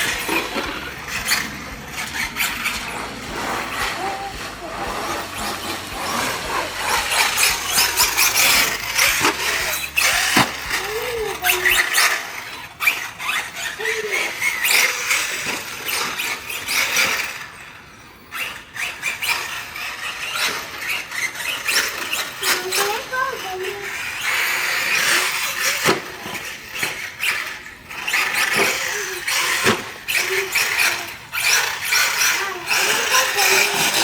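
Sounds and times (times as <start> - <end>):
electric motor whining: 0.0 - 34.0.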